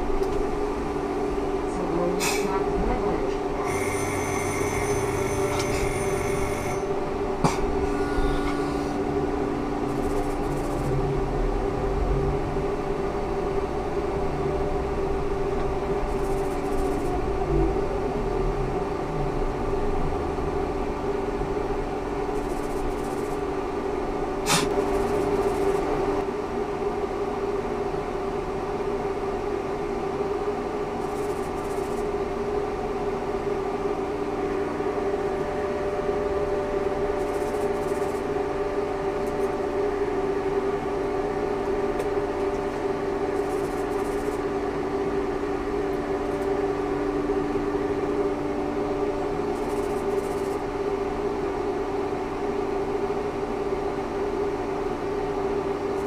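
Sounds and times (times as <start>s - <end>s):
trolleybus electric drive hum: 0.0s - 56.0s.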